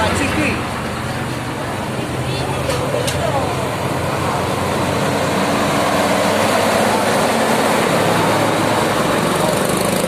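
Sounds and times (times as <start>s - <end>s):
heavy vehicle engine running: 0.0s - 10.0s
road traffic noise: 0.0s - 10.0s.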